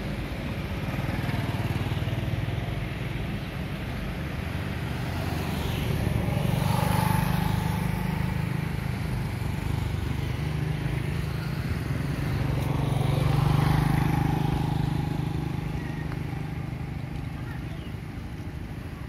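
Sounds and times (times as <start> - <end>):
motorcycles passing: 0.0 - 19.0.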